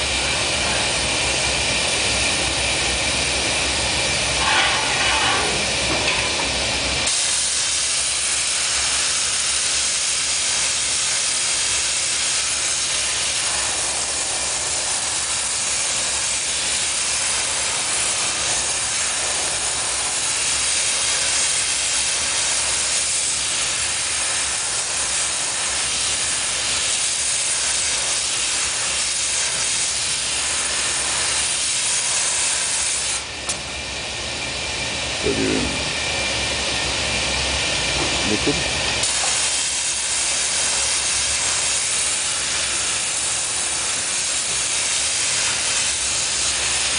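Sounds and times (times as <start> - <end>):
gas torch hissing: 0.0 - 46.9.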